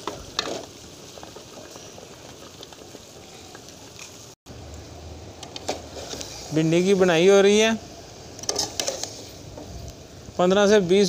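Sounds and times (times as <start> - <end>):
sauce bubbling and sizzling in oil: 0.0 - 11.0.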